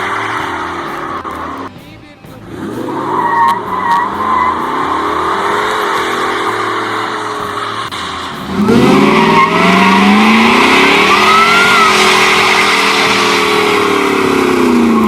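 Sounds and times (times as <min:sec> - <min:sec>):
engine revving hard: 0:00.0 - 0:01.7, 0:02.4 - 0:15.0
tyres squealing: 0:02.4 - 0:15.0.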